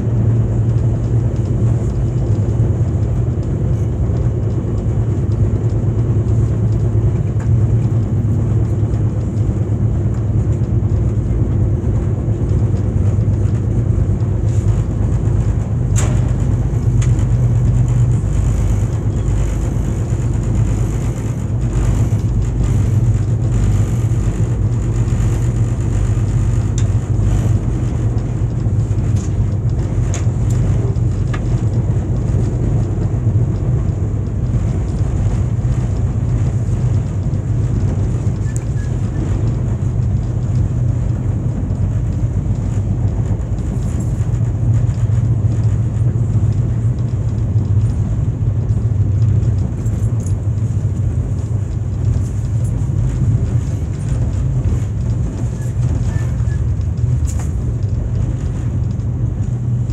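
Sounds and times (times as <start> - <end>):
train rumbling at speed: 0.0 - 59.9.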